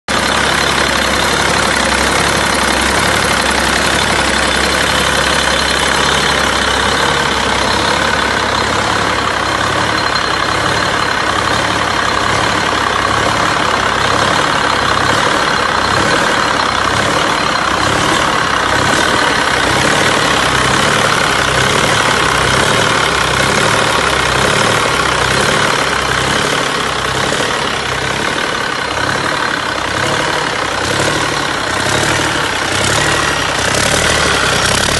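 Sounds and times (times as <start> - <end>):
large engine idling: 0.1 - 34.9.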